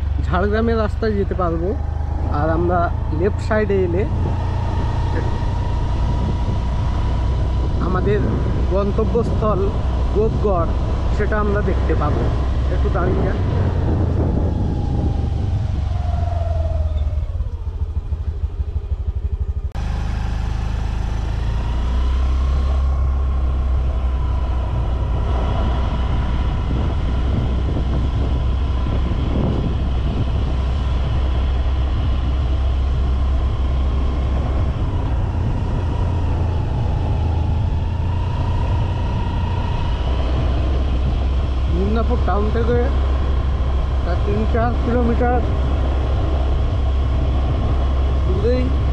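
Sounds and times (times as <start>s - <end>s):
steady whine: 0.0s - 48.9s
vehicle engine and road rumble: 0.0s - 48.9s.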